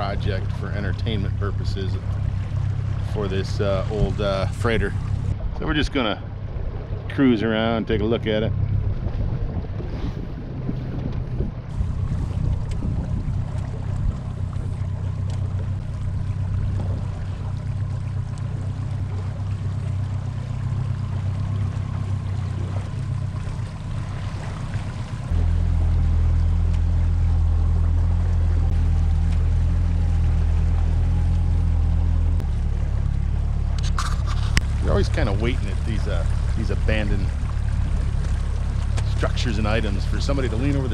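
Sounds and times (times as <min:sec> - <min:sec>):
outboard motor humming: 0:00.0 - 0:40.9.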